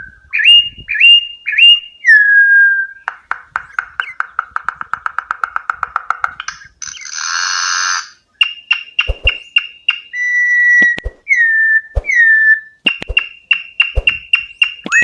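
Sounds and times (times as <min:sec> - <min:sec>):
bird song with rasps and whistles: 0:00.0 - 0:15.0.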